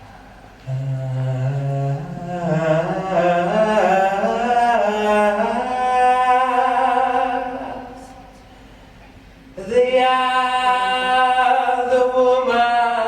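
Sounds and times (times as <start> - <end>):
layered wordless chant singing: 0.7 - 8.4, 9.6 - 13.0.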